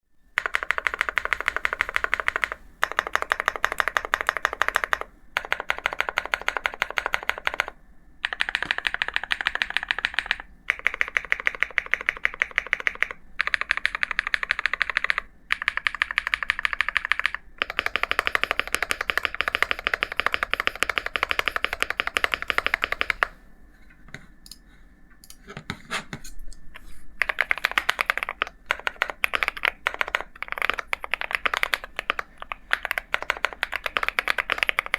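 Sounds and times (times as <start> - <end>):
mechanical keyboard typing: 0.4 - 23.4, 27.2 - 34.9.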